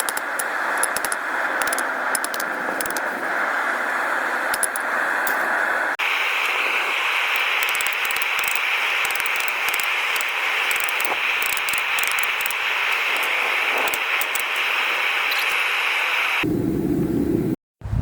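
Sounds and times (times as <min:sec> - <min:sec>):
forge hissing: 0:00.0 - 0:17.6.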